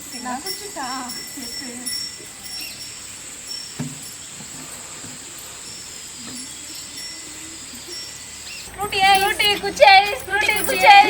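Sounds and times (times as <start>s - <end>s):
faint distant voices: 0.0s - 11.0s
insects droning: 0.0s - 11.0s.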